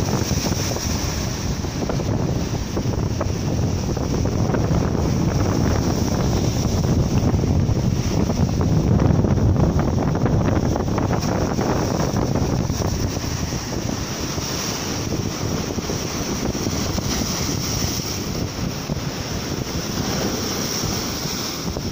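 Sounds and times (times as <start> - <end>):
waves breaking on rocks: 0.0 - 21.9
wind buffeting microphone: 0.0 - 21.9.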